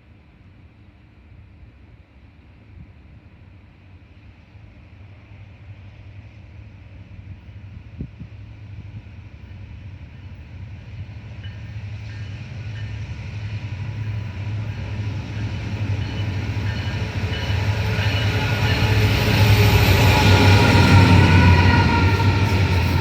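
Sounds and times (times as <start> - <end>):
diesel train engine drone: 0.1 - 23.0
rail noise: 0.2 - 23.0.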